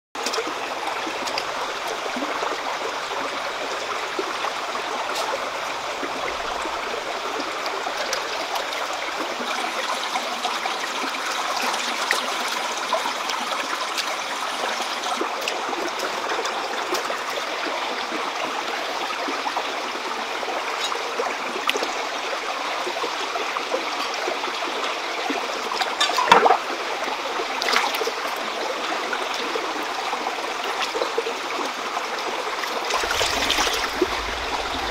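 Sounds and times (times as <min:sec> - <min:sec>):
stream running over rocks: 0:00.2 - 0:34.9.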